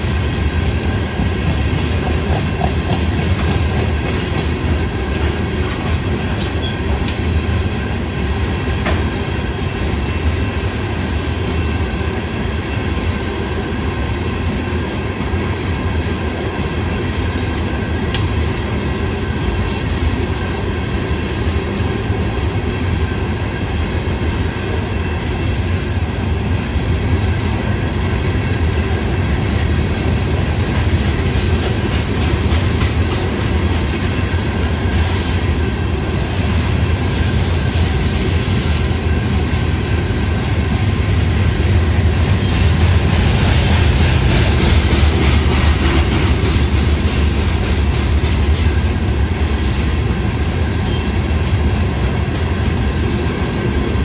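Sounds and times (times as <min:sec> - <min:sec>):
freight train wheels clattering: 0:00.0 - 0:54.0.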